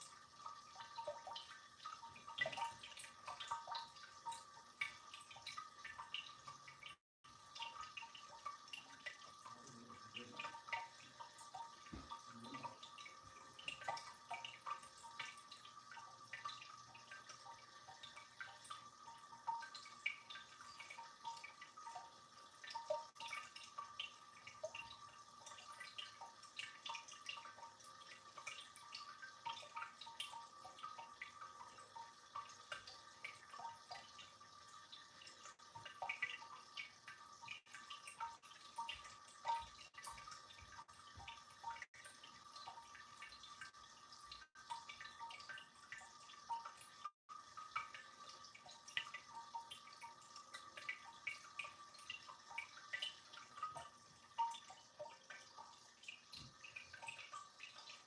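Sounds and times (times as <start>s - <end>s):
fountain water trickling: 0.0s - 58.0s.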